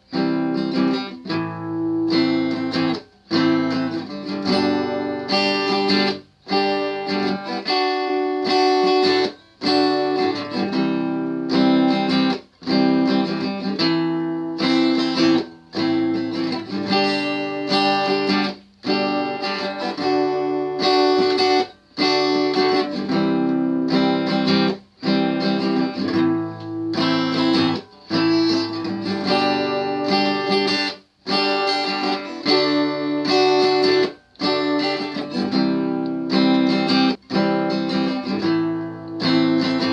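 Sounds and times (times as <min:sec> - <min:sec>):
guitar plucked and strummed: 0:00.0 - 0:39.9.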